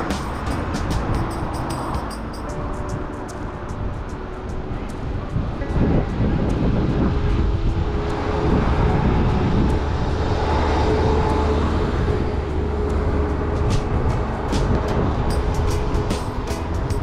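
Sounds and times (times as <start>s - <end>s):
vehicle engine running steadily: 0.0s - 17.0s.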